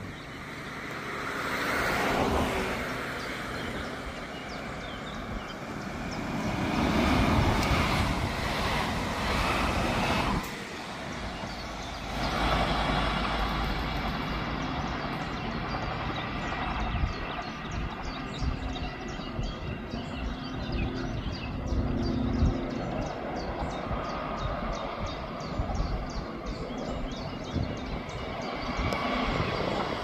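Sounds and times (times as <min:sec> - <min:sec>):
distant train rumble and hum: 0:00.0 - 0:30.0
train passing with rushing wheels: 0:00.0 - 0:30.0.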